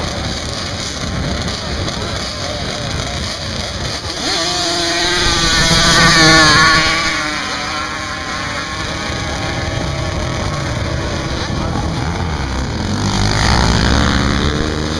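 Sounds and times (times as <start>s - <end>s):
racing engines at full throttle: 0.0s - 14.9s.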